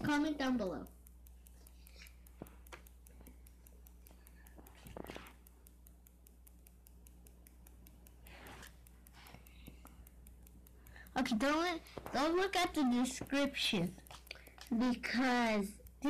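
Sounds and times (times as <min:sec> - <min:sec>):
faint clicks: 0:00.0 - 0:16.0
low electrical hum: 0:00.0 - 0:16.0.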